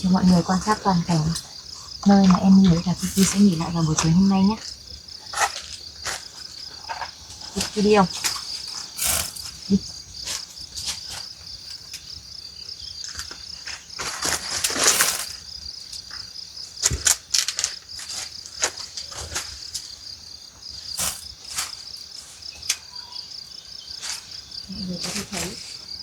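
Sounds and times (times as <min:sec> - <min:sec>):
rustling: 0:00.0 - 0:12.1, 0:13.0 - 0:22.9, 0:23.8 - 0:26.0
crickets trilling: 0:00.0 - 0:26.0.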